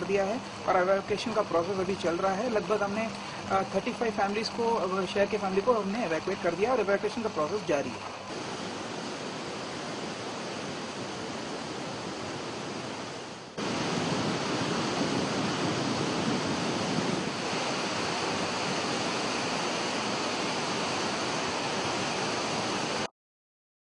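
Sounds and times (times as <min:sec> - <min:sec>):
rushing floodwater: 0:00.0 - 0:23.1.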